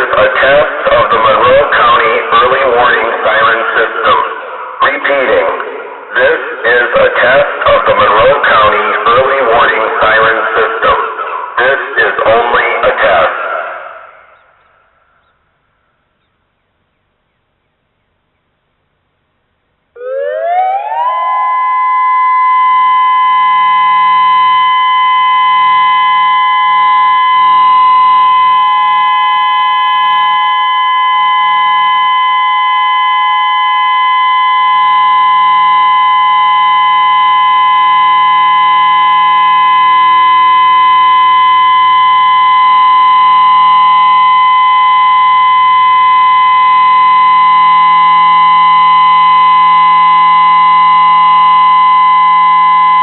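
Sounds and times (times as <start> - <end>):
outdoor warning siren: 0.0 - 16.0, 19.8 - 53.0.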